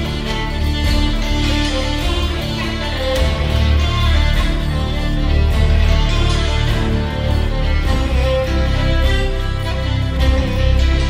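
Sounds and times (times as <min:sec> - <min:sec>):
music with long held notes: 0:00.0 - 0:11.0
steady low bass: 0:00.0 - 0:11.0.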